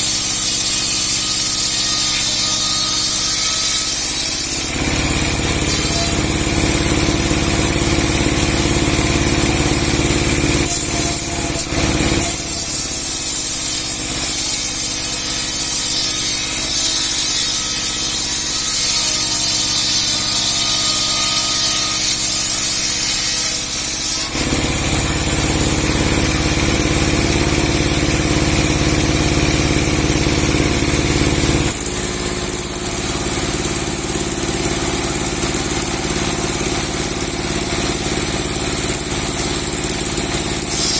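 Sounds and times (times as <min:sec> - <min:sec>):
saw blade cutting log: 0:00.0 - 0:40.9
sawing machine engine droning: 0:00.0 - 0:40.9.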